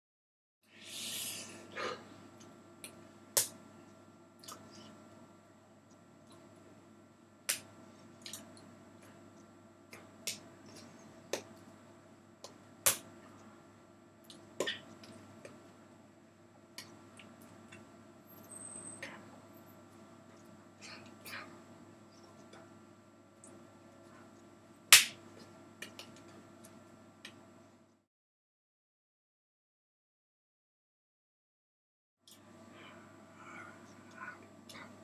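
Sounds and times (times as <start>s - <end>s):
room hum: 0.6s - 28.1s, 32.3s - 35.0s.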